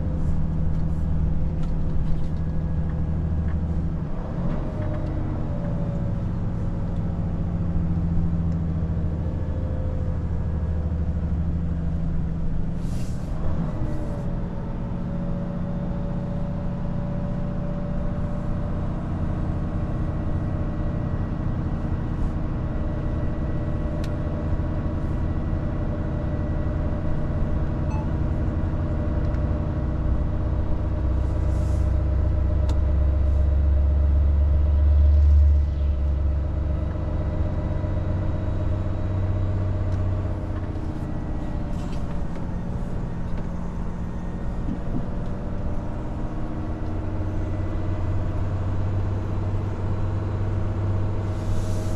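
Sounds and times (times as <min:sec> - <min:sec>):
road noise: 0:00.0 - 0:51.9
truck diesel engine drone: 0:00.0 - 0:51.9.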